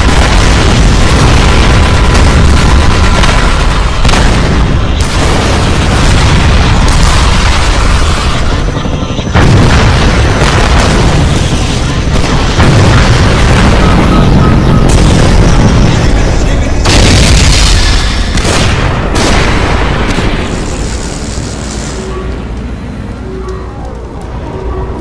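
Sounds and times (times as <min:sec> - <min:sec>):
loud explosions and blasts: 0:00.0 - 0:22.5.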